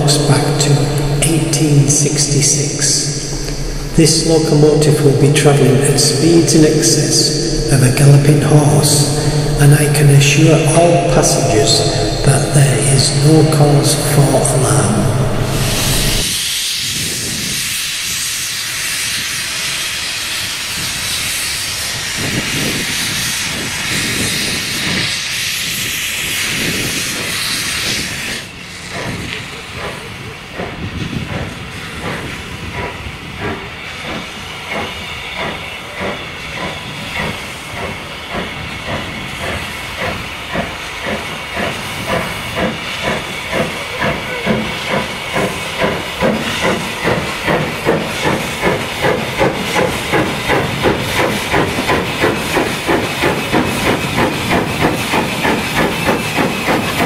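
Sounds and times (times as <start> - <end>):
locomotive exhaust beats: 0.0 - 16.9, 20.8 - 57.0
steam locomotive hissing steam: 0.0 - 57.0.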